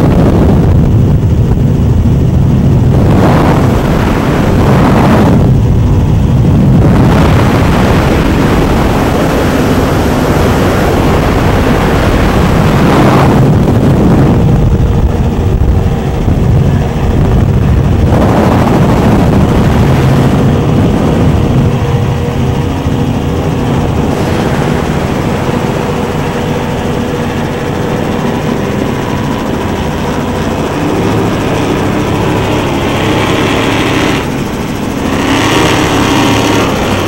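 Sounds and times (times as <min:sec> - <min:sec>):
powerboat engines at high speed: 0:00.0 - 0:37.0
rush of wind and water: 0:00.0 - 0:37.0.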